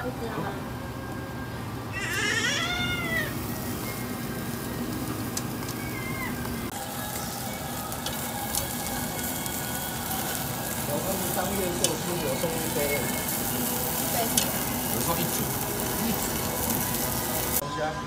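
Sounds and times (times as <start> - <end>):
meat sizzling on a grill: 2.0 - 17.6.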